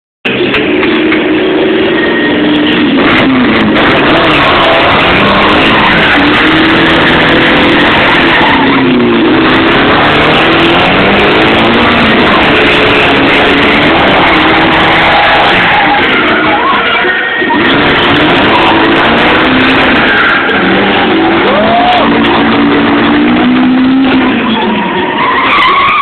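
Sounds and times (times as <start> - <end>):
car engine revving hard: 0.3 - 26.0
tyre squeal: 1.8 - 26.0.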